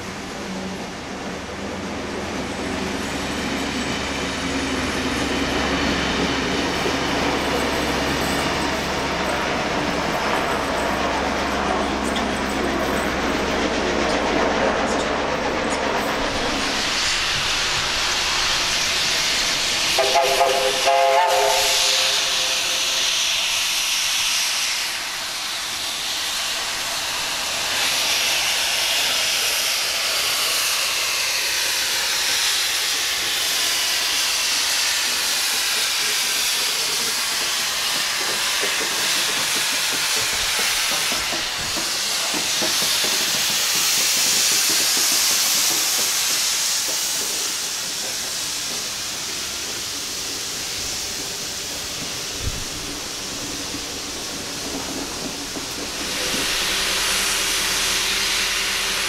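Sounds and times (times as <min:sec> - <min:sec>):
steam locomotive hissing: 0:00.0 - 0:59.0
train wheels clicking over rail joints: 0:01.7 - 0:59.0.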